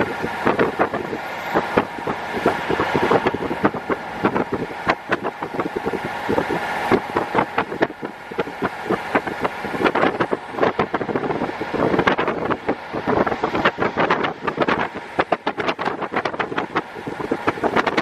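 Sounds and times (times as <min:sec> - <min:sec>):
diesel railcar engine running: 0:00.0 - 0:18.0
wind noise: 0:00.0 - 0:18.0.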